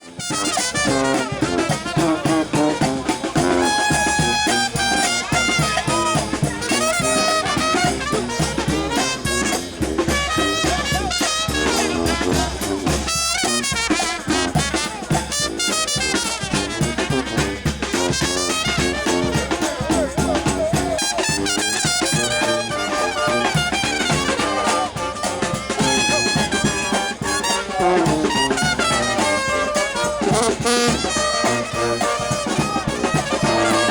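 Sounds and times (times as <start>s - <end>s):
brass band playing: 0.0s - 33.9s
steady drum beat: 0.0s - 33.9s.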